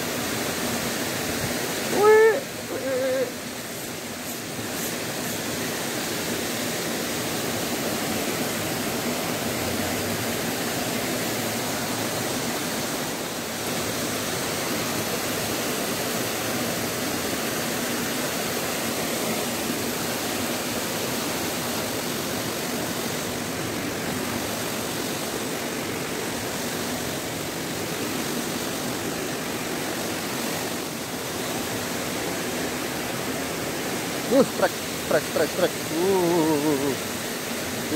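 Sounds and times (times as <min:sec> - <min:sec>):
stream rushing: 0:00.0 - 0:37.9.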